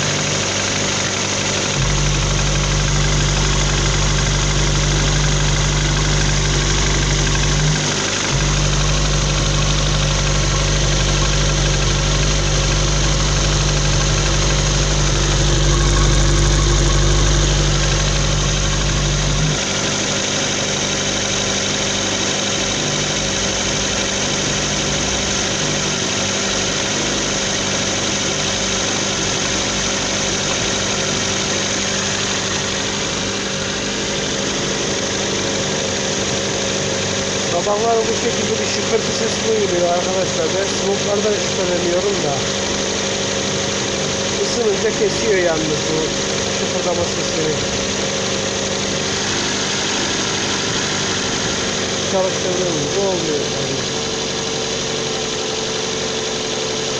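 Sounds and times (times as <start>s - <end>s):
car engine idling: 0.0s - 56.9s
engine rattling tick: 0.0s - 56.9s.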